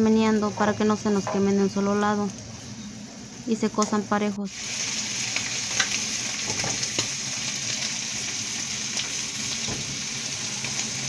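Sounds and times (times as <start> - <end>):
vegetables sizzling on a griddle: 0.0 - 11.0.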